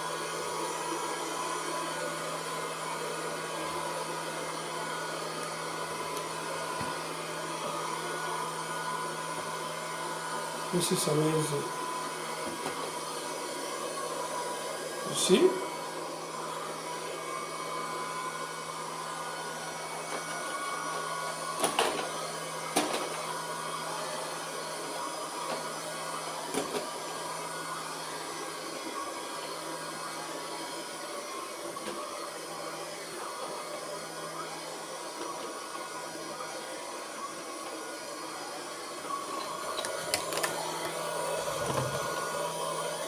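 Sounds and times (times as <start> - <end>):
robot vacuum whirring: 0.0 - 43.0.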